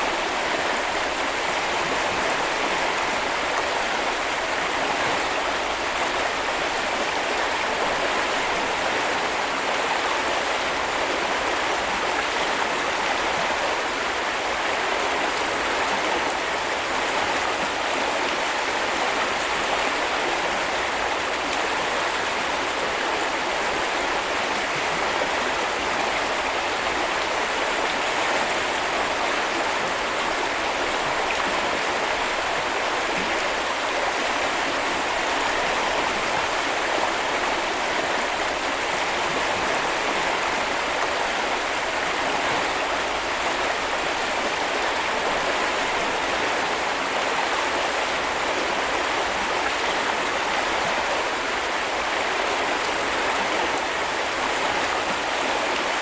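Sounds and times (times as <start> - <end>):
brook flowing: 0.0 - 56.0.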